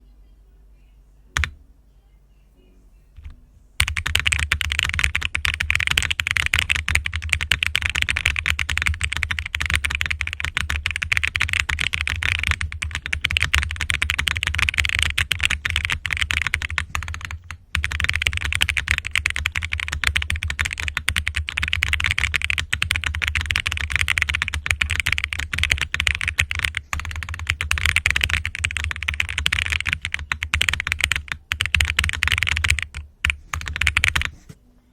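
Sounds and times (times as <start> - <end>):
mechanical keyboard typing: 1.4 - 1.6, 3.2 - 34.4.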